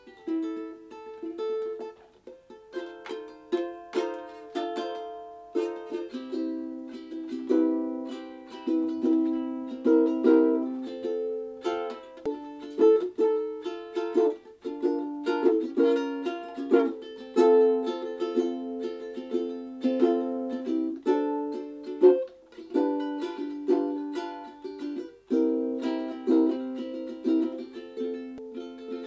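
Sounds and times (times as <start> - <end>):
ukulele chords strummed: 0.0 - 29.0.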